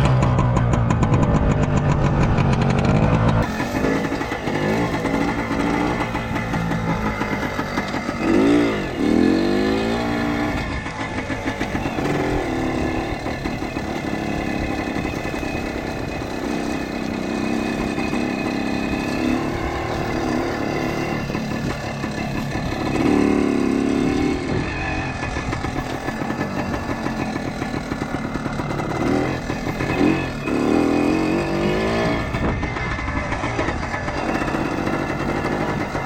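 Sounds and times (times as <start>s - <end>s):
motorcycle two-stroke engine revving: 0.0s - 36.0s.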